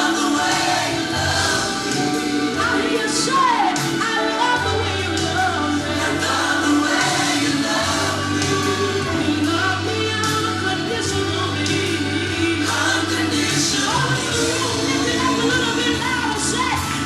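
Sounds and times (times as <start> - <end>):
band with low bass: 0.0 - 4.0, 4.6 - 17.0
gospel singing: 0.0 - 17.0.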